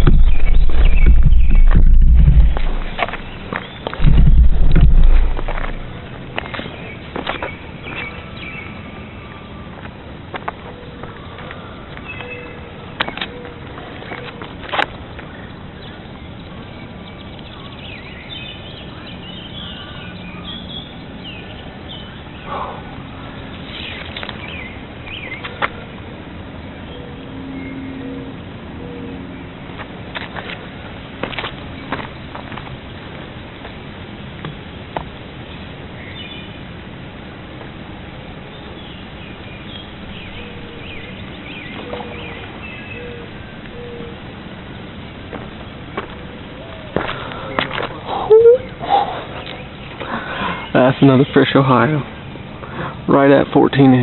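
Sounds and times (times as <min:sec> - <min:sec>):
birds chirping: 0:00.0 - 0:29.9, 0:30.5 - 0:36.8, 0:38.1 - 0:54.0
steady background hiss: 0:00.0 - 0:54.0.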